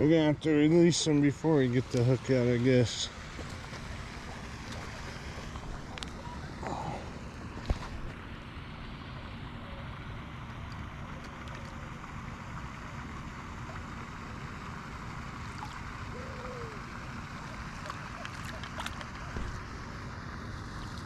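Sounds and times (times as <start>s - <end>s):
fountain water splashing: 0.2s - 21.0s.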